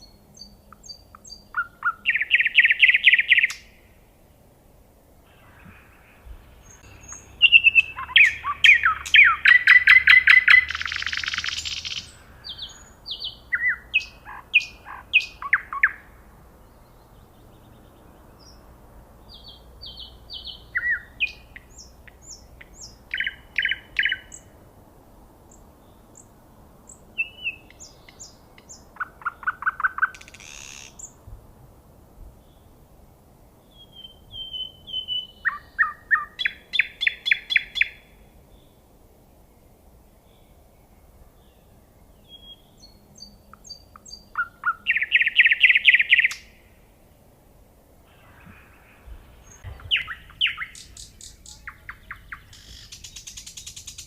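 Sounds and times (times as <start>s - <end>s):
nightingale singing: 0.0s - 3.9s, 5.4s - 18.6s, 19.2s - 24.6s, 25.5s - 31.2s, 33.6s - 38.8s, 40.2s - 46.8s, 48.2s - 54.0s.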